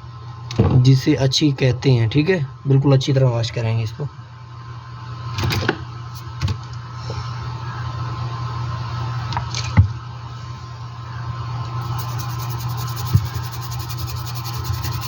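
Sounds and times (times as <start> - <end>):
electrical hum with high whine: 0.0 - 15.0.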